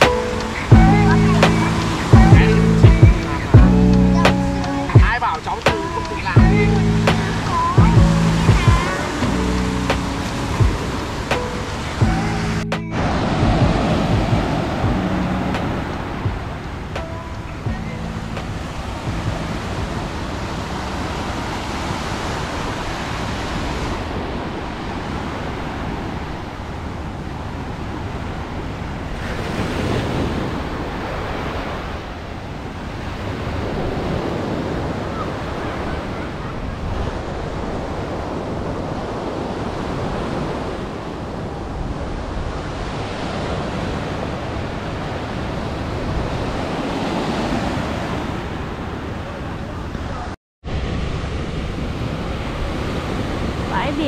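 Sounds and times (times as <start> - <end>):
small surf breaking on a beach: 0.0 - 0.8, 4.3 - 12.0, 12.9 - 54.0.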